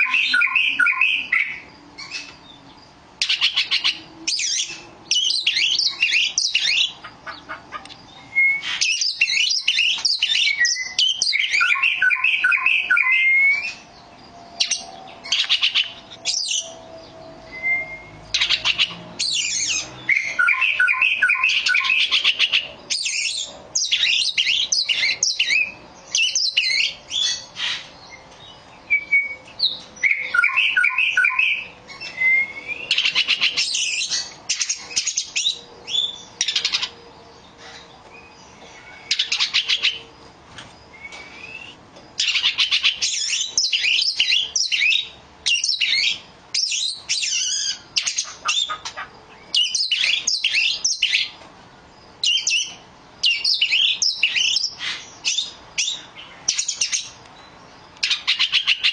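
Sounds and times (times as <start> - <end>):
bird singing: 0.0 - 58.9.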